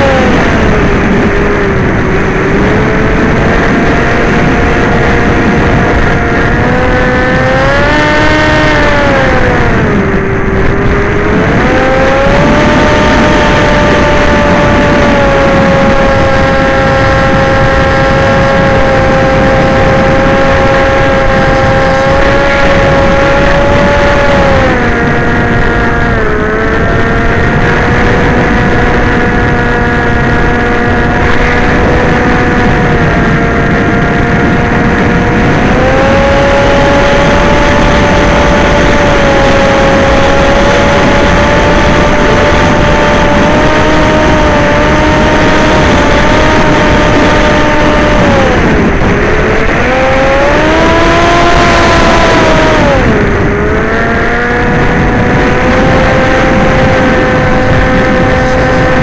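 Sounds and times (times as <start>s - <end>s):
model aircraft motor whining: 0.0s - 59.0s.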